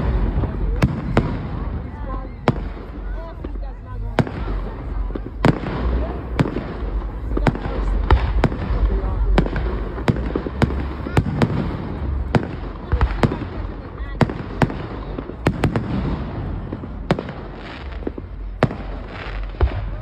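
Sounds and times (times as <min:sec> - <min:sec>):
fireworks exploding: 0:00.0 - 0:20.0
low rumble: 0:00.0 - 0:20.0.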